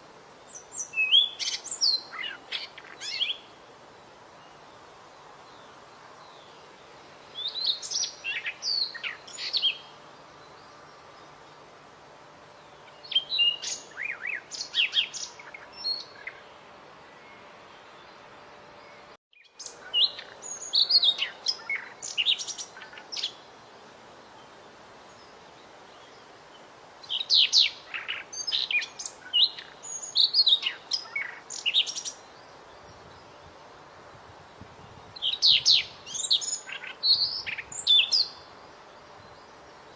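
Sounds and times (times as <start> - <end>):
small songbird singing: 0.0 - 39.9.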